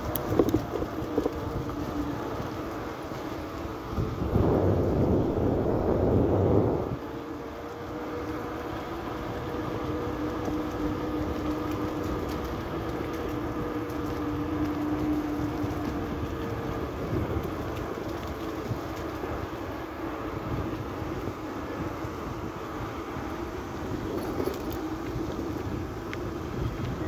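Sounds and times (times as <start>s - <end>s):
bicycle tyres on wet asphalt: 0.0s - 27.0s
wind buffeting microphone: 0.0s - 27.0s.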